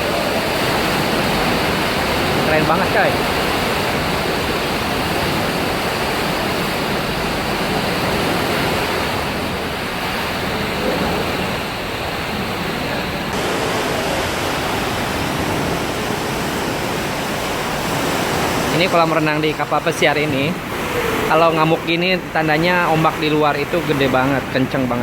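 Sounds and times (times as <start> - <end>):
pool water sloshing and splashing: 0.0 - 25.0.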